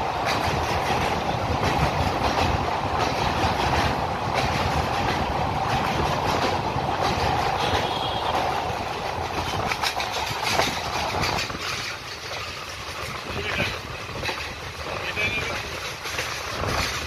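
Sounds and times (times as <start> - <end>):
train wheels clacking on rails: 0.0 - 17.0.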